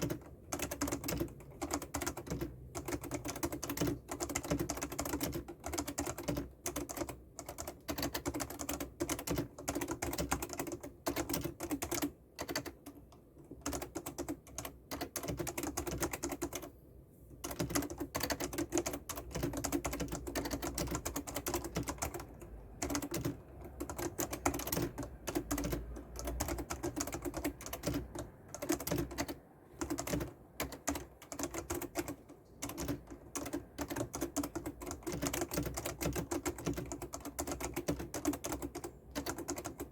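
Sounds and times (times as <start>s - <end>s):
fast keyboard typing: 0.0s - 16.7s, 17.4s - 39.9s.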